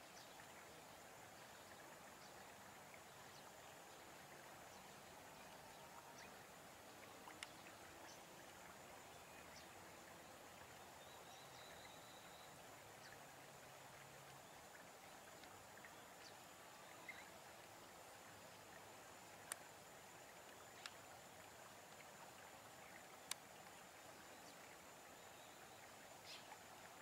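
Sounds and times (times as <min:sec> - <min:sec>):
faint outdoor hiss: 0:00.0 - 0:27.0
faint ticks: 0:01.4 - 0:27.0.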